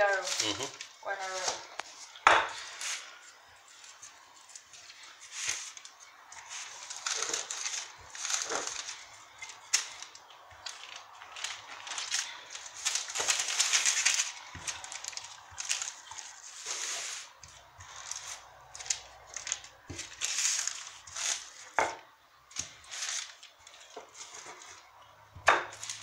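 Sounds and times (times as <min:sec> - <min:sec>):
baking paper rustling and scraping: 0:00.0 - 0:26.0.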